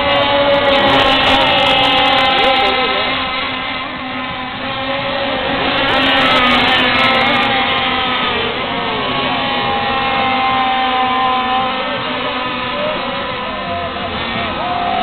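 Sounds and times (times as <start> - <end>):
model powerboat engines whining: 0.0 - 15.0.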